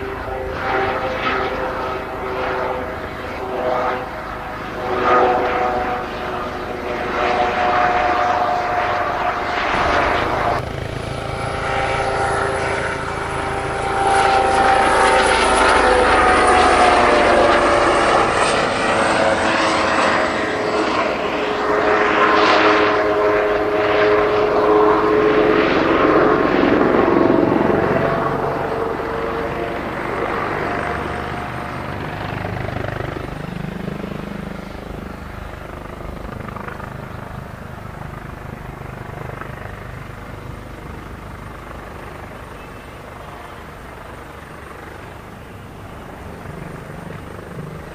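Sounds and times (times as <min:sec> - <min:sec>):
helicopter turbine whine: 0:00.0 - 0:47.9.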